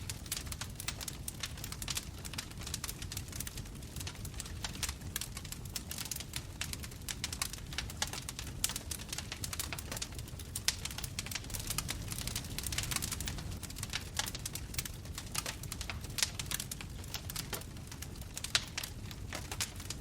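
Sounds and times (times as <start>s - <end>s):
loud pops of fire: 0.0s - 20.0s
low rumble of flames: 0.0s - 20.0s
wood fire crackling: 0.0s - 20.0s.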